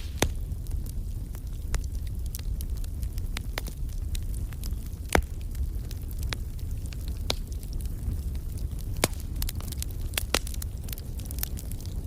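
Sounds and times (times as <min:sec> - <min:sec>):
campfire crackling: 0:00.0 - 0:12.0
fire popping: 0:00.0 - 0:12.0.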